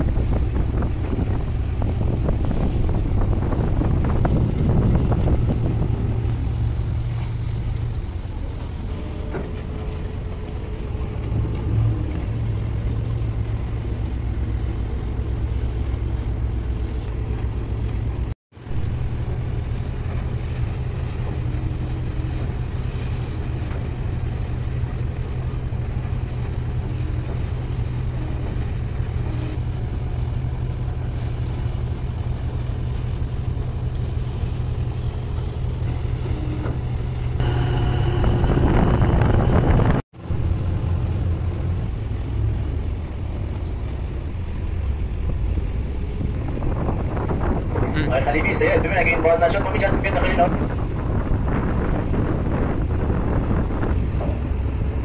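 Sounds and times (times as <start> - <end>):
boat engine droning: 0.0 - 55.0
rushing water: 0.0 - 55.0
wind: 0.0 - 55.0.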